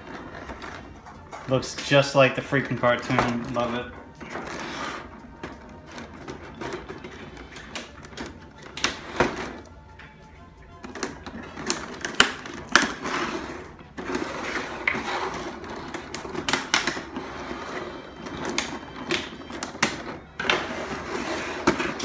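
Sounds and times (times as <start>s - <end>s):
cardboard and styrofoam rustling: 0.0s - 9.7s, 10.8s - 22.0s
packaging clicks and knocks: 0.0s - 10.0s, 10.8s - 17.4s, 18.1s - 22.0s.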